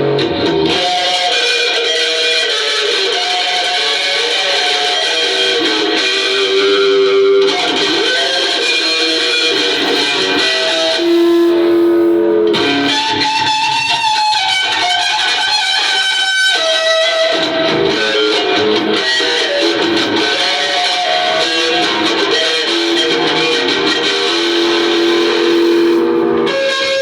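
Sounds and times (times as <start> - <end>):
electric guitar lead line: 0.0 - 27.0.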